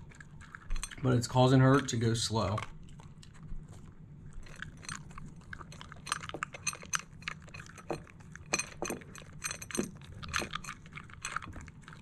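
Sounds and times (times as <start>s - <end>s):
dog crunching dry kibble: 0.0s - 12.0s.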